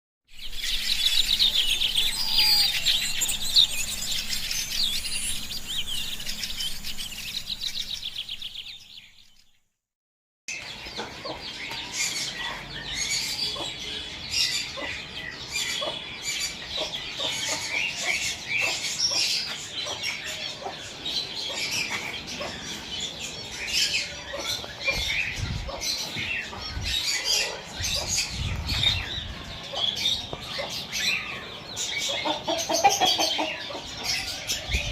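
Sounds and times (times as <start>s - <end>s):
many birds chirping and calling: 0.3s - 9.5s, 10.5s - 34.9s.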